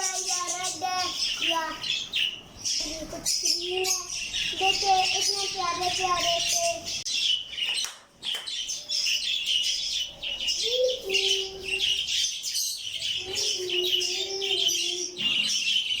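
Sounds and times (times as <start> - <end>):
parrots chirping and chattering: 0.0 - 16.0.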